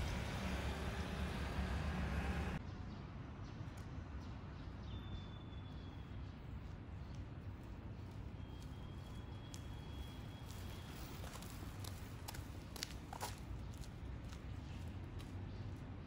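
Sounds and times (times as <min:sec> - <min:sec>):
steady city rush: 0:00.0 - 0:04.8, 0:05.5 - 0:16.0.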